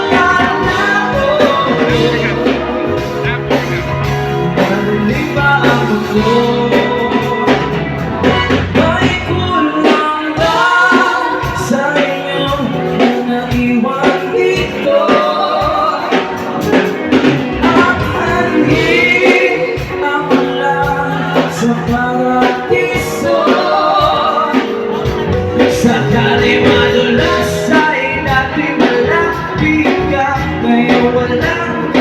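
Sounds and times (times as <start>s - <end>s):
instrumental pop band music: 0.0s - 32.0s.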